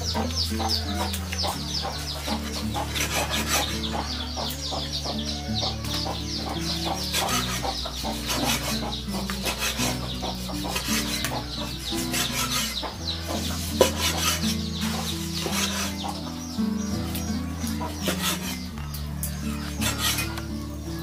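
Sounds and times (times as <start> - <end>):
background music with low notes: 0.0 - 21.0
chickens clucking and chirping: 0.0 - 21.0.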